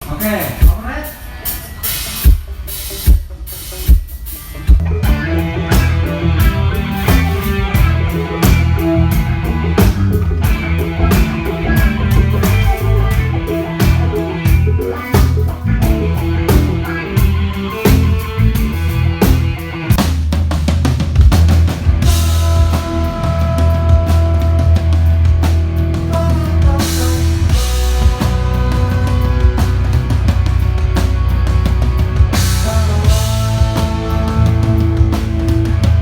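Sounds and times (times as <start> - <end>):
band playing with steady beat: 0.0 - 36.0.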